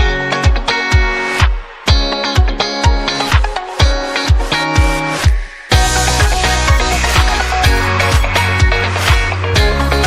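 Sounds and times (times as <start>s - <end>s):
electronic kick-drum beat: 0.0s - 10.0s.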